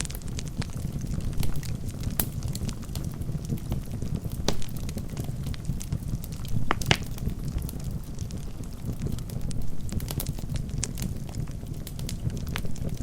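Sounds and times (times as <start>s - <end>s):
logs crackling and popping: 0.0s - 13.0s
rumble of fire flames: 0.0s - 13.0s.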